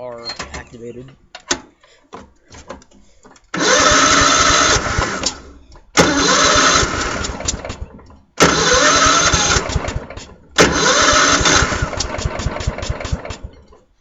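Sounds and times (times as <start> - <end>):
electric starter cranking engine: 1.4 - 13.9.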